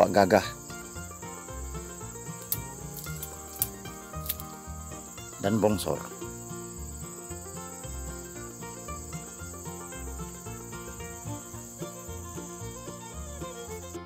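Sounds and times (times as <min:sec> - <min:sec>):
insects chirring: 0:00.0 - 0:14.0
soft instrumental music: 0:00.0 - 0:14.0.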